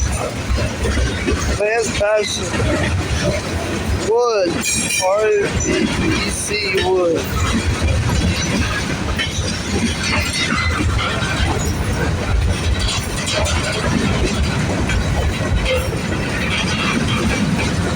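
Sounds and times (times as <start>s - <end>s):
freight train wheels rumbling: 0.0s - 17.9s.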